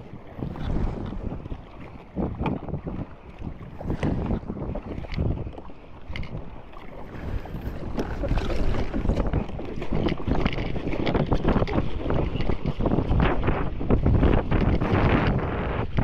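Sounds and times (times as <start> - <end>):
paddle splashing in water: 0.0 - 16.0
water rushing along hull: 0.0 - 16.0
wind buffeting microphone: 0.0 - 16.0.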